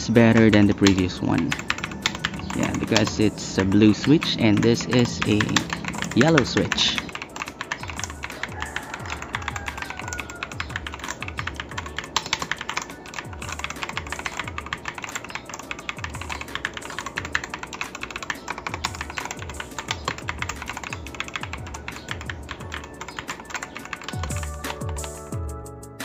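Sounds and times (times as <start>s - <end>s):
background music with low beat: 0.0s - 26.0s
mechanical keyboard typing: 0.1s - 25.3s.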